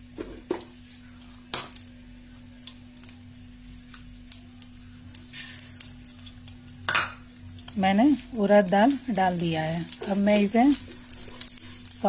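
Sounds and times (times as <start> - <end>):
seeds crackling in hot oil: 0.0 - 12.0
sizzling hiss: 0.0 - 12.0.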